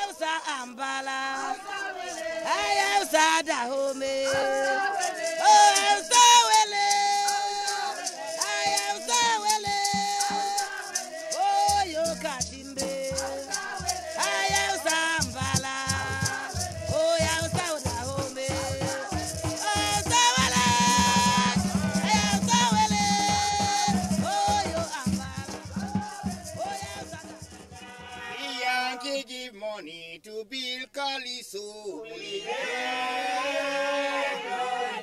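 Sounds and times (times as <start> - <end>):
shaker rattling: 0.0 - 29.0.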